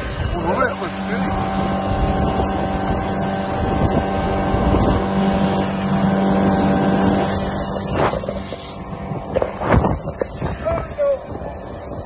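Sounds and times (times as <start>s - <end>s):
outboard motor running: 0.0s - 12.0s
water rushing along hull: 0.0s - 12.0s
wind buffeting microphone: 0.0s - 12.0s.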